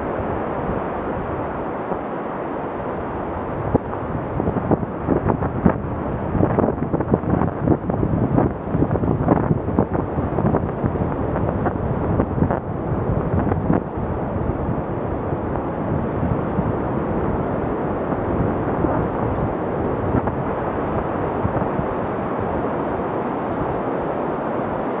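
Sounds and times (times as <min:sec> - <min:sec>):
distant ocean surf: 0:00.0 - 0:25.0
wind buffeting microphone: 0:00.0 - 0:25.0.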